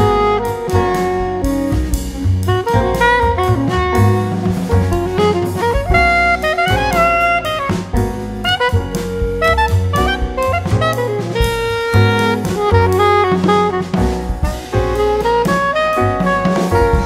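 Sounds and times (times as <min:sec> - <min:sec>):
drum kit beat: 0:00.0 - 0:17.0
saxophone melody: 0:00.0 - 0:17.0.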